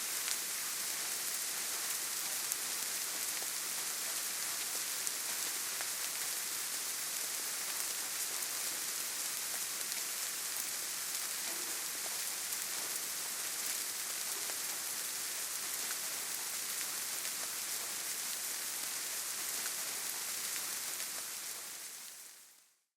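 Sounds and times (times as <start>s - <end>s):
rain falling on leaves: 0.0s - 22.7s.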